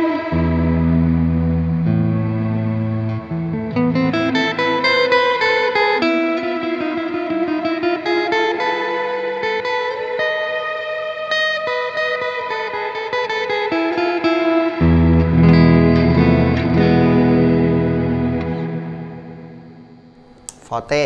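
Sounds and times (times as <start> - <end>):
electric guitar chord ringing: 0.0 - 20.2
reverb electric guitar notes: 0.0 - 20.2.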